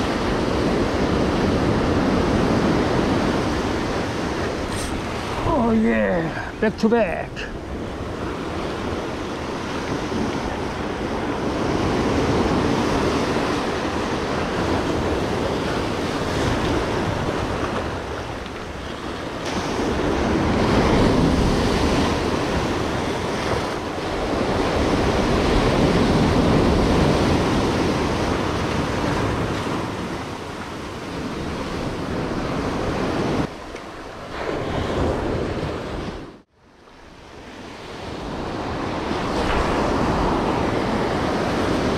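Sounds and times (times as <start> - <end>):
surf breaking on rocky shore: 0.0 - 36.4, 37.4 - 41.9.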